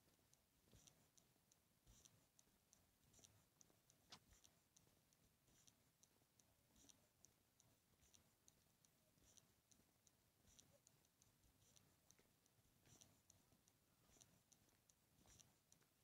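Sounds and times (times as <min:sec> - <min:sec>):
faint soft clicks: 0:00.0 - 0:16.0.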